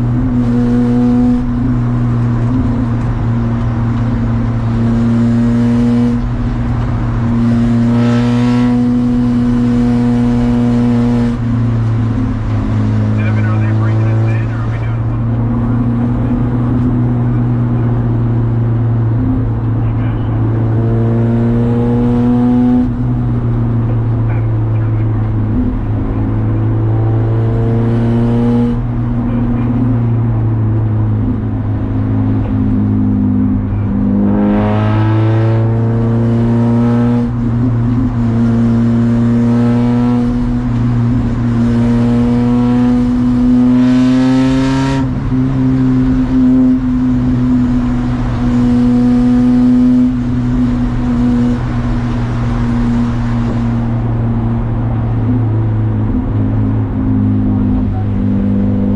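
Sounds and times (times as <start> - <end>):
race car engine revving: 0.0 - 58.9.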